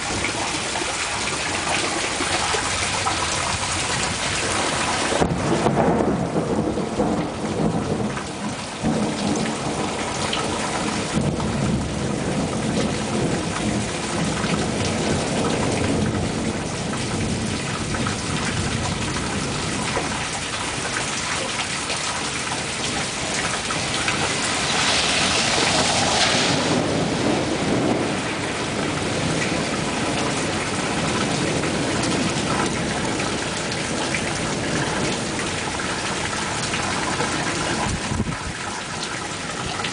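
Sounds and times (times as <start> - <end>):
heavy rain on pavement: 0.0 - 39.9
thunder rumbling: 0.0 - 39.9.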